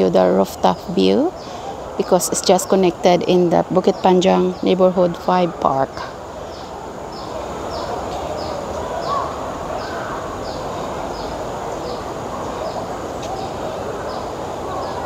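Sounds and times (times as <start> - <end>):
steady background hiss and rumble: 0.0 - 15.0.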